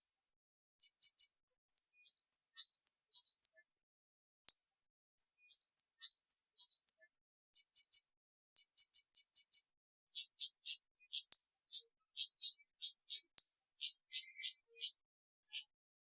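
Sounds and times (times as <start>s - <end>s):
bird singing high chirps: 0.0s - 3.7s, 4.5s - 15.8s.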